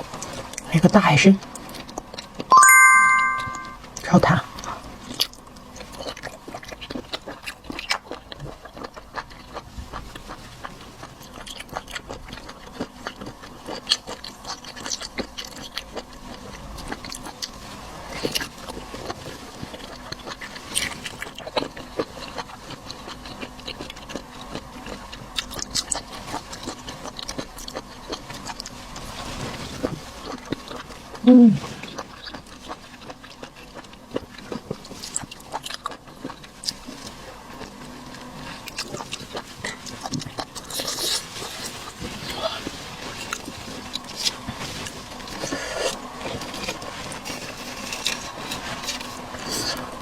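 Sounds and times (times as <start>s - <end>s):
person chewing wetly: 5.1s - 50.0s.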